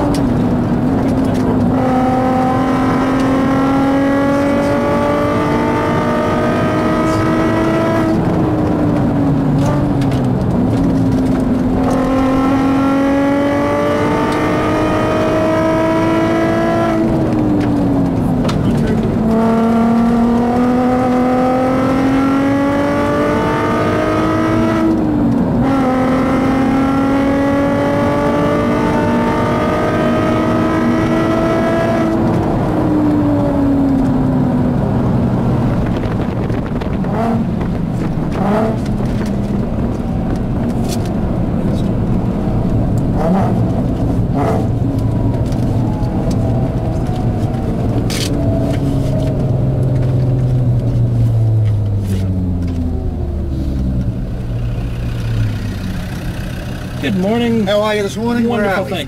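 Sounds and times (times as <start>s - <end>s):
car engine revving hard: 0.0s - 51.0s.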